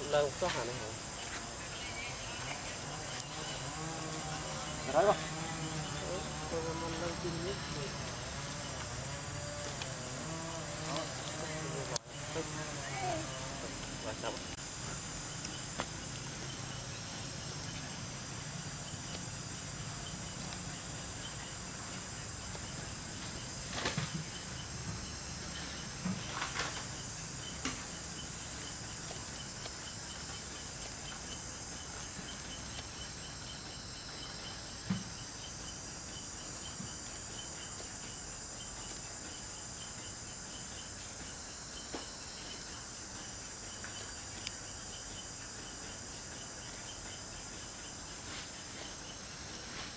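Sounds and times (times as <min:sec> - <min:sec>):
high insect chorus: 0:00.0 - 0:49.9.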